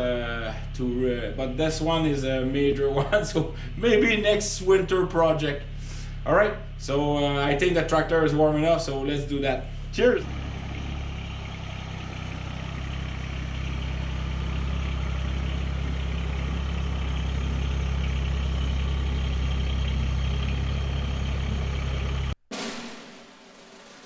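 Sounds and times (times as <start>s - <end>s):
tractor engine idling: 0.0s - 22.4s.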